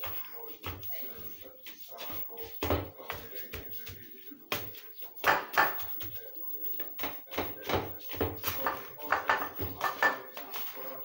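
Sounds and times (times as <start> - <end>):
indistinct voices talking: 0.0 - 11.0.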